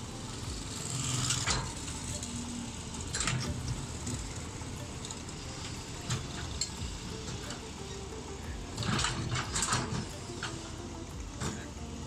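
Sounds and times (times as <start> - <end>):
excavator engine hum: 0.0 - 12.0
metallic clanks and squeaks: 0.6 - 11.8.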